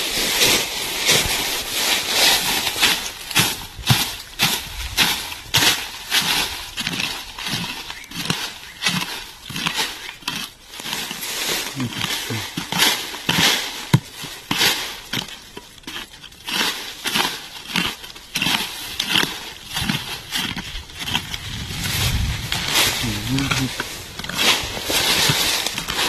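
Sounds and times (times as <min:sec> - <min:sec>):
hoe scraping soil and leaves: 0:00.0 - 0:26.0.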